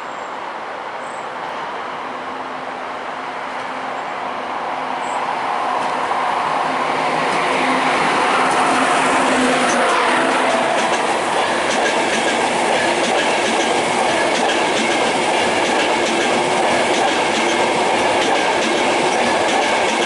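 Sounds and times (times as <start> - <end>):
train wheels rushing on rail: 0.3 - 20.0
locomotive steady hum: 2.0 - 20.0.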